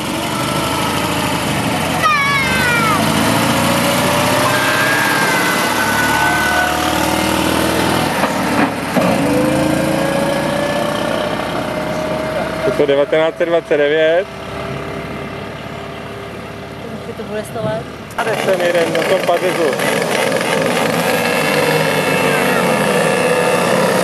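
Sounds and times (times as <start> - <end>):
vintage car engine passing by: 0.0 - 24.0.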